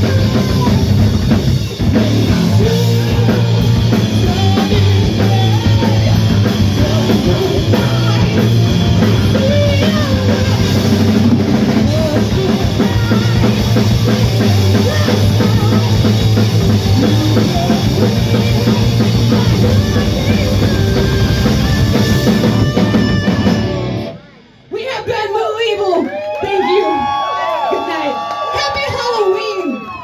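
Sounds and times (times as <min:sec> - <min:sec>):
pounding drum kit: 0:00.0 - 0:24.2
loud hard rock band: 0:00.0 - 0:24.3.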